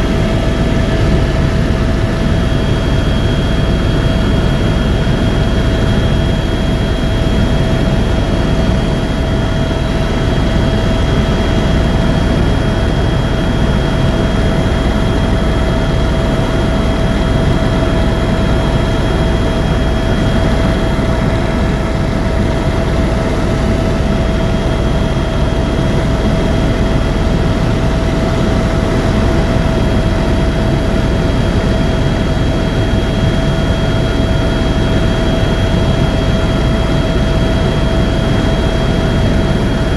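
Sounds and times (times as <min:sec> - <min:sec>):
helicopter cabin drone: 0:00.0 - 0:39.9
turbine whine: 0:00.0 - 0:39.9.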